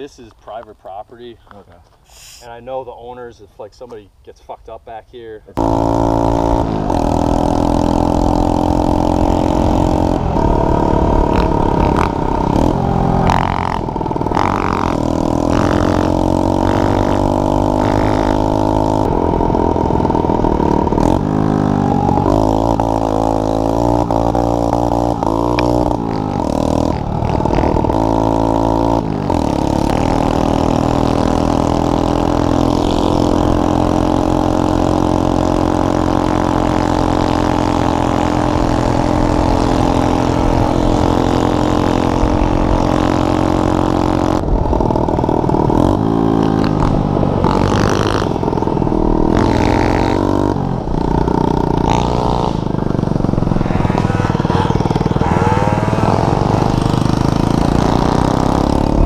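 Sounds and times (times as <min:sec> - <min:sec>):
quad bike engine revving: 0:05.6 - 0:59.0.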